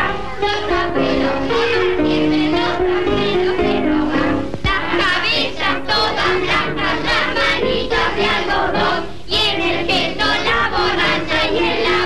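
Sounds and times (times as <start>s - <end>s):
children's choir singing: 0.0s - 12.0s
instrumental accompaniment: 0.0s - 12.0s.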